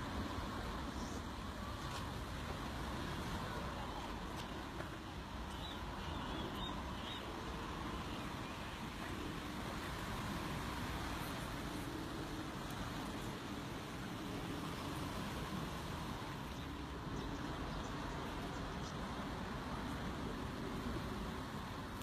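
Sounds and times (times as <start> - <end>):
steady rumbling background noise: 0.0 - 22.0.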